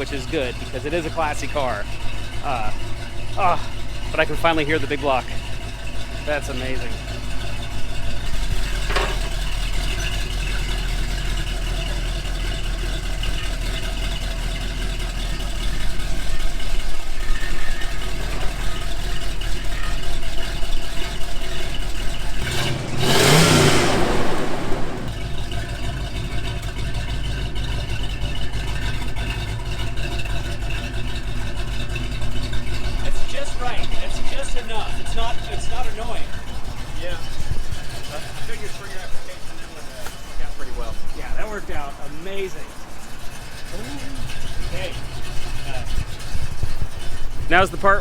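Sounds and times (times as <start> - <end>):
car engine idling deeply: 0.0 - 48.0.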